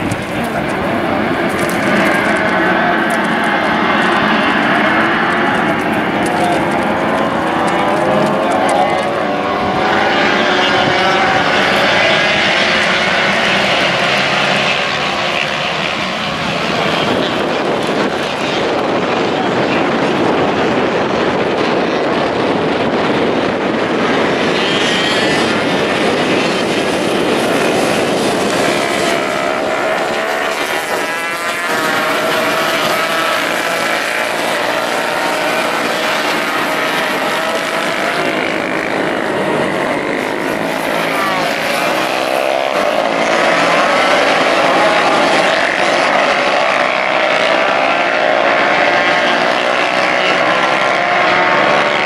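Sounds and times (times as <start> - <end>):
racing motorcycles at high revs: 0.0 - 52.0.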